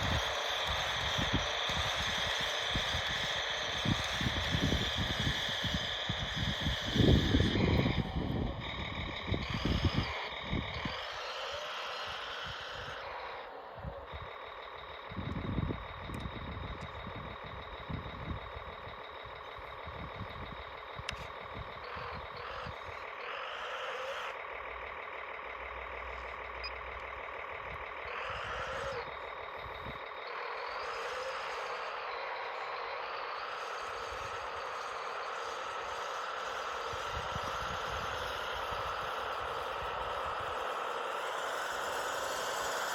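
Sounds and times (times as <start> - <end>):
electric motor and gearbox whine: 0.0 - 42.9.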